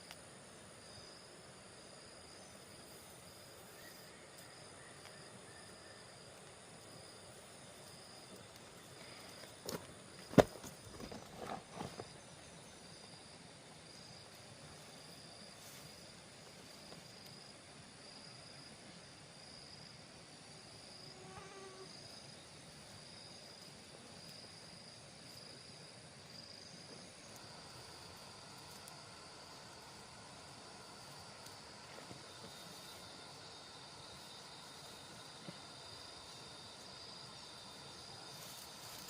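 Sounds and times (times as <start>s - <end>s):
insect chirping: 0.0s - 39.0s.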